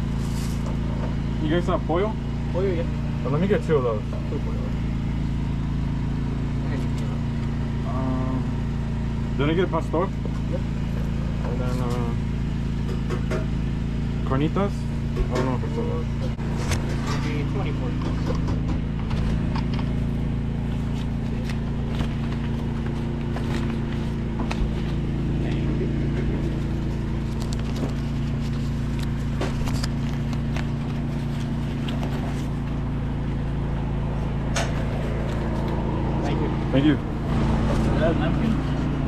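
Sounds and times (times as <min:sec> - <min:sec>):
low motor hum: 0:00.0 - 0:39.0.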